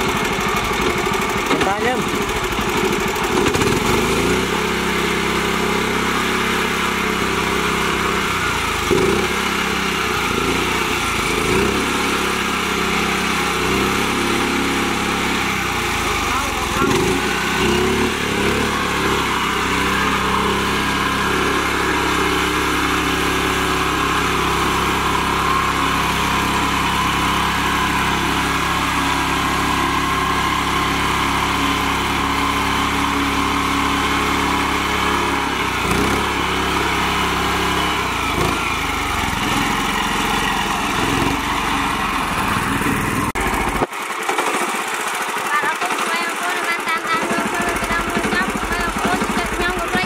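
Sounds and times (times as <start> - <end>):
small tractor engine running: 0.0 - 50.0.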